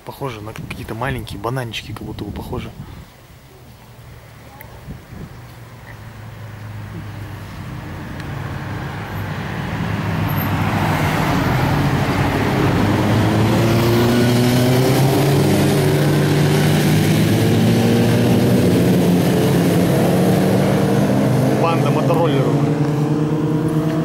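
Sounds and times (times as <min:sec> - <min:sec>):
cars passing: 0:03.2 - 0:24.0
motorcycles passing: 0:04.0 - 0:24.0.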